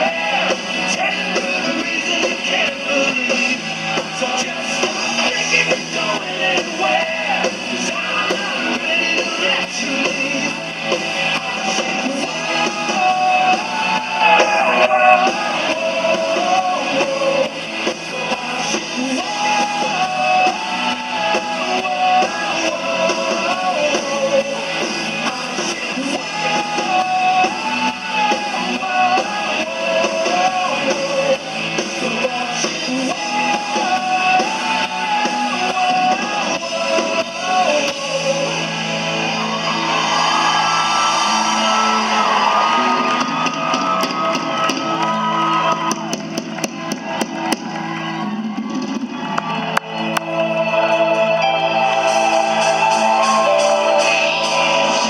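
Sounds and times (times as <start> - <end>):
rock song with electric guitar: 0.0 - 55.0.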